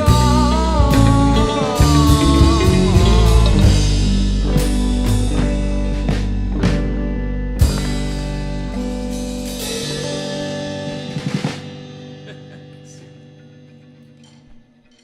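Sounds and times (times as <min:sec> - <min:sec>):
rock band chord ringing: 0:00.0 - 0:14.5.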